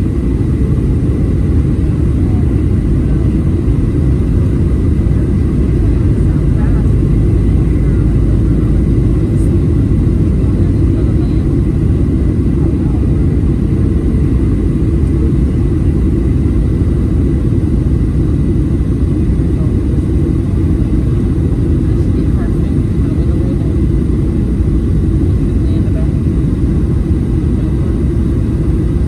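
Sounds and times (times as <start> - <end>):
airplane cabin rumble: 0.0 - 29.0.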